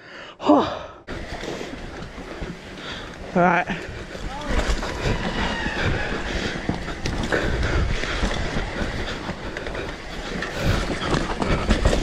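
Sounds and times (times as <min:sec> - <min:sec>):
bike rattling and knocking: 0:01.1 - 0:12.0
bike tyres rolling over dirt: 0:01.1 - 0:12.0.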